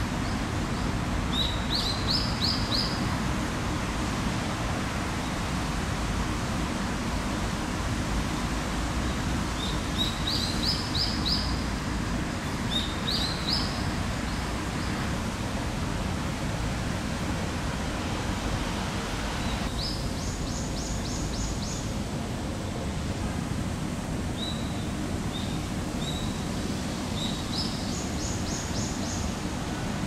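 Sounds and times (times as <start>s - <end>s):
low outdoor background noise: 0.0s - 30.0s.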